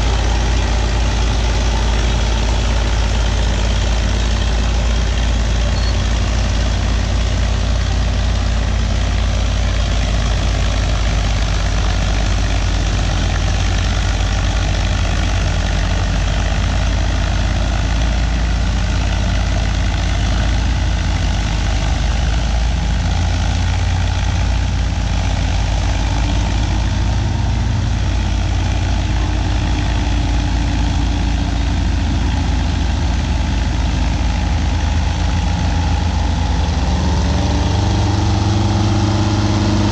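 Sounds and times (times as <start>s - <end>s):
bulldozer engines droning: 0.0s - 39.9s.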